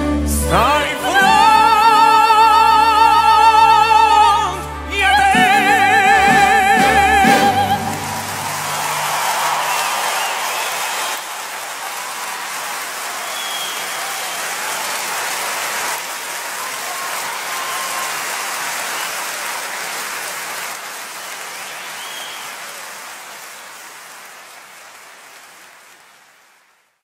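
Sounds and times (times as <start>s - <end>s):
audience applauding: 0.6s - 27.0s.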